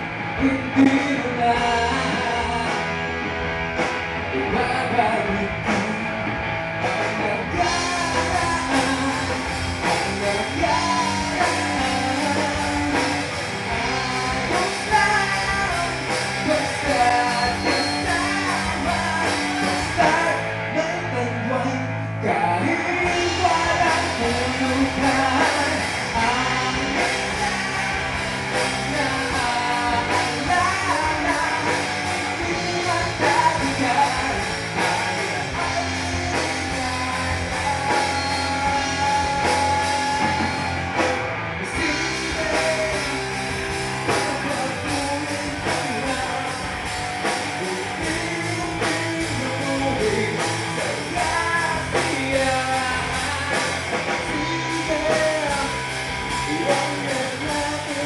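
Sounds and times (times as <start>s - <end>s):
singer: 0.0s - 3.3s, 4.0s - 58.0s
drums: 0.0s - 58.0s
electric guitar: 0.0s - 58.0s.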